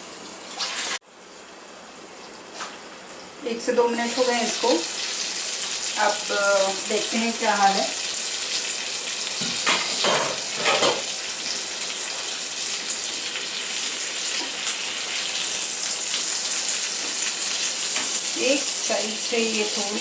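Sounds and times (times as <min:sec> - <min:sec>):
chillies sizzling in oil: 0:03.3 - 0:20.0.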